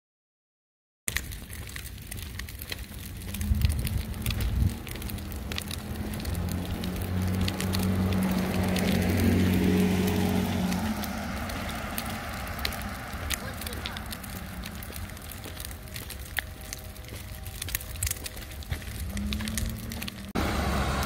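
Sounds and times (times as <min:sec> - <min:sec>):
stroller wheels rolling on asphalt: 0:01.1 - 0:21.0.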